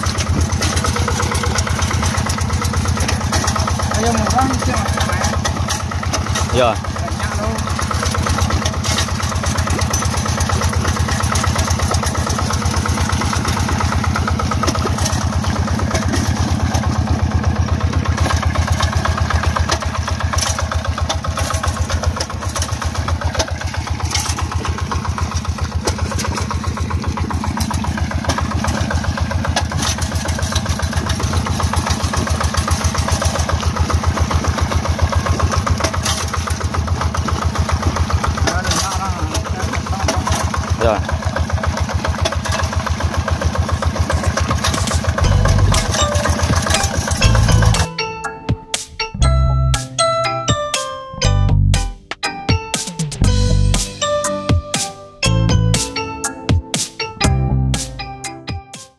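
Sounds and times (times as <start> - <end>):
diesel engine pulsing: 0.0 - 58.2.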